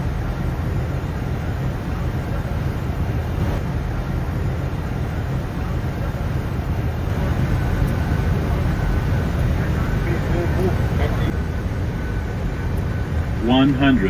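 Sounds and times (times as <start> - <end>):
aircraft airflow and engine rumble: 0.0 - 14.0.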